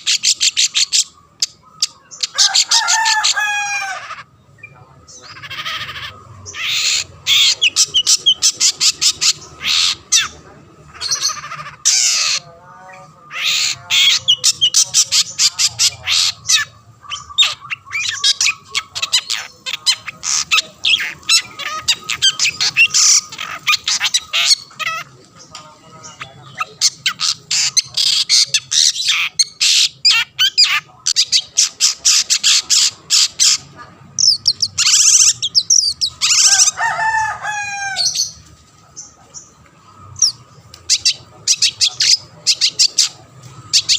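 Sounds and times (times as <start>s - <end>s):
bird harsh chattering song: 0.0s - 43.9s.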